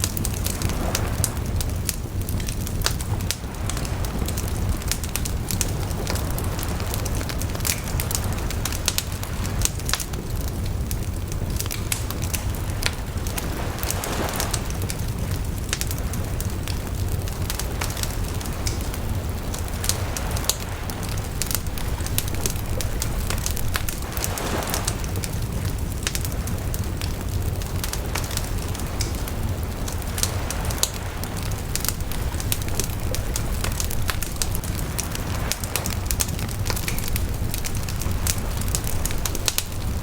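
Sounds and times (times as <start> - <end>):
bonfire crackling and popping: 0.0 - 40.0
low rumble of burning fire: 0.0 - 40.0.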